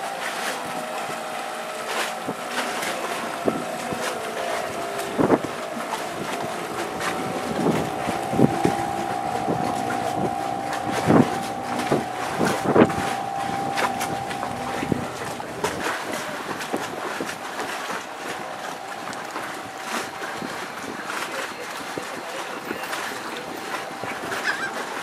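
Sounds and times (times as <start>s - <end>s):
outboard motor whining: 0.0s - 25.0s
wind buffeting microphone: 0.9s - 24.4s.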